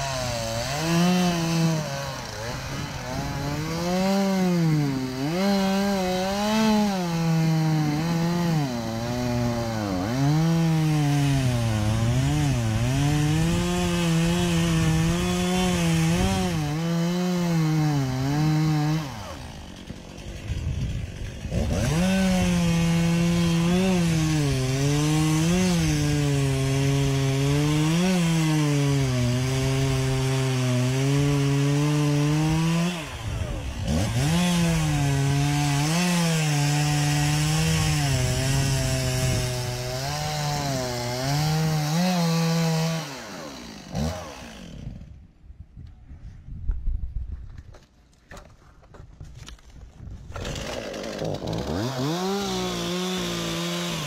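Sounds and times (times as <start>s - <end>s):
chainsaw cutting wood: 0.0s - 45.2s, 47.7s - 54.0s.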